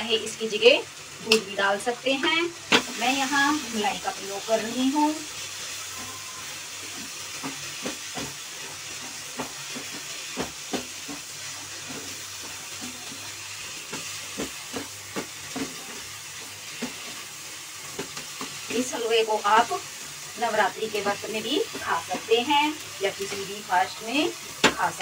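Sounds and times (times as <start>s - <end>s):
food sizzling in pan: 0.0s - 25.0s.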